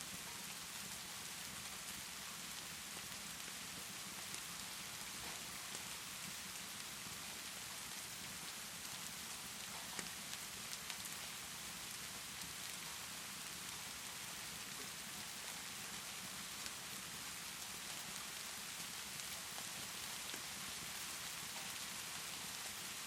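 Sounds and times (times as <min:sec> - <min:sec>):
steady rainfall: 0:00.0 - 0:23.0
fireplace crackling: 0:00.5 - 0:23.0.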